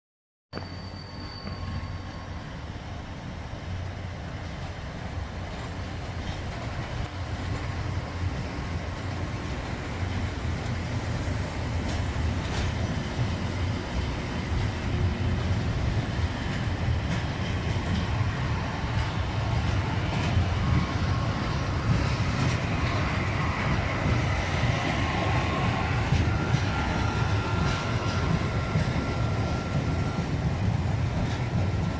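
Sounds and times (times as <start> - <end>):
train engine and wheels rumbling: 0.5 - 31.9.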